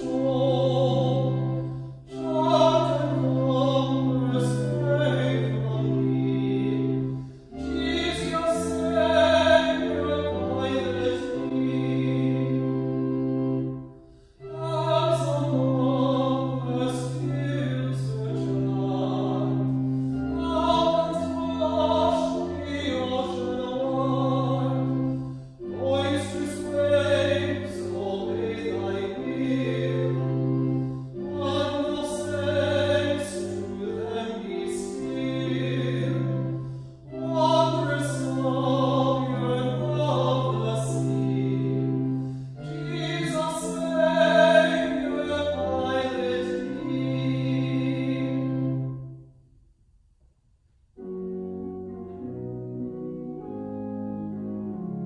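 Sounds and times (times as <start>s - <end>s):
classical hymn singing: 0.0s - 49.4s, 51.0s - 55.0s
sustained accompaniment: 0.0s - 49.6s, 51.0s - 55.0s.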